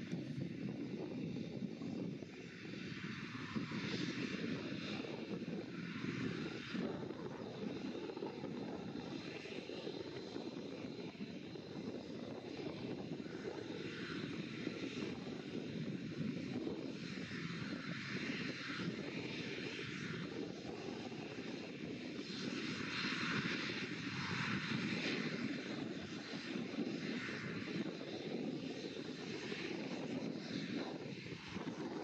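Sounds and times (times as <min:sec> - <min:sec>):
turboprop engines running: 0:00.0 - 0:32.0.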